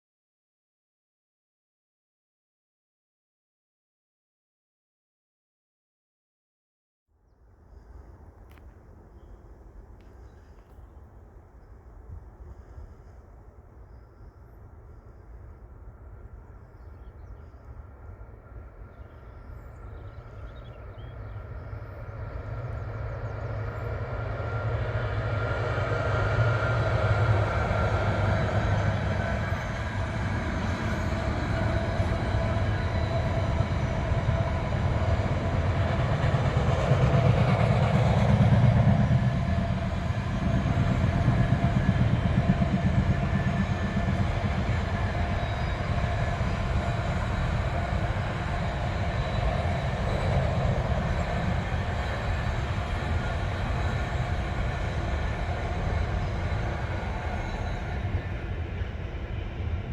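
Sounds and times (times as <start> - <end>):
diesel locomotive engine: 7.5 - 59.9
train wagons rolling past: 7.8 - 59.9.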